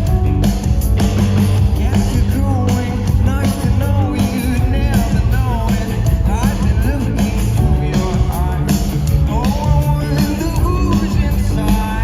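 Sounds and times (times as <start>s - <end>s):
pop-rock band playing: 0.0s - 12.0s
person singing lead vocal: 1.4s - 12.0s.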